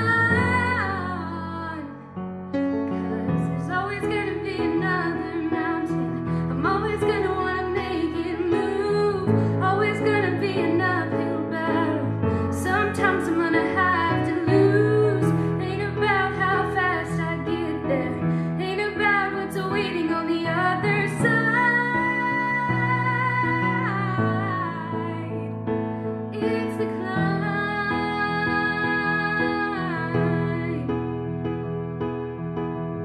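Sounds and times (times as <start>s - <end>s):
woman singing: 0.0s - 2.2s, 3.0s - 25.6s, 26.3s - 31.0s.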